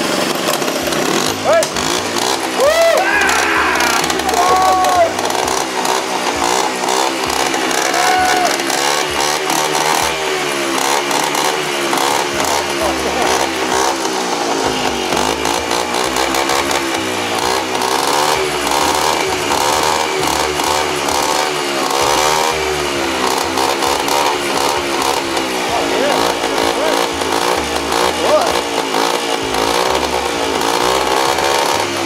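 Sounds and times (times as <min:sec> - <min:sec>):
moped engine revving: 0:00.0 - 0:32.0.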